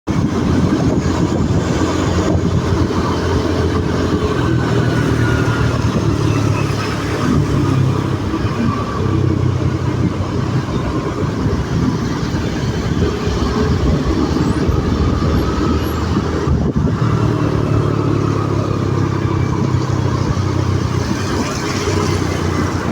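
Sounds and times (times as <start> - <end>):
traffic rumble: 0.1 - 22.9.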